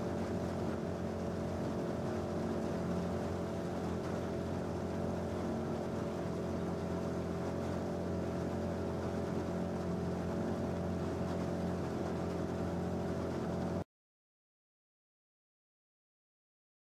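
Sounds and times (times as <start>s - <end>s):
outboard motor running: 0.0s - 13.8s.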